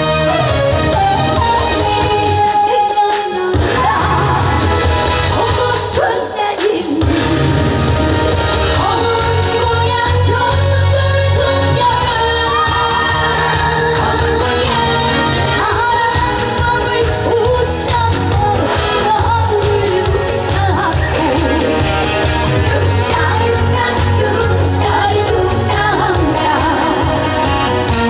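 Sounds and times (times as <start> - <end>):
amplified band backing: 0.0 - 28.0
woman singing with vibrato: 1.5 - 7.6, 8.8 - 28.0
heavy bass: 3.6 - 6.0, 7.0 - 28.0.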